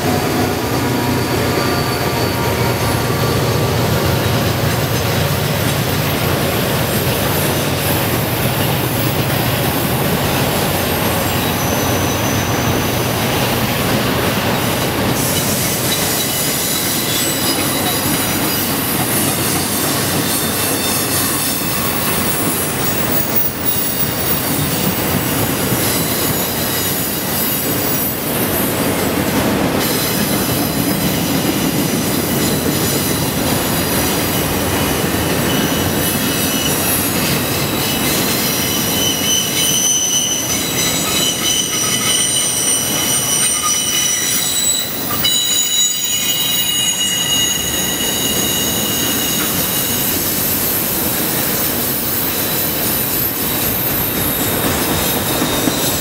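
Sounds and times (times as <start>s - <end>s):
high wheel squeal: 0.0s - 9.4s, 10.3s - 13.6s, 14.5s - 28.8s, 29.8s - 56.0s
freight cars rumbling on rails: 0.0s - 56.0s.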